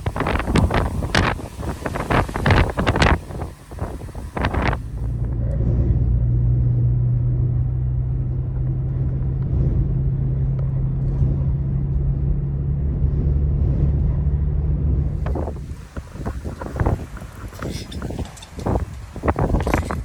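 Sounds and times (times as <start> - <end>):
light wind: 0.0 - 20.0
vehicle engine idling: 0.0 - 20.0.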